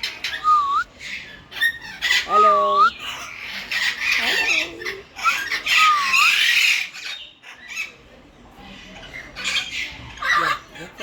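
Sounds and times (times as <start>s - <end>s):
birds squawking: 0.0s - 11.0s.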